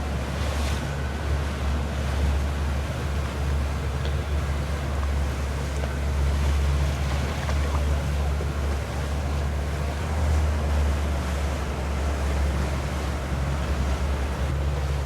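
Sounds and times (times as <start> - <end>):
motorboat engine: 0.0 - 15.0
water rushing: 0.0 - 15.0.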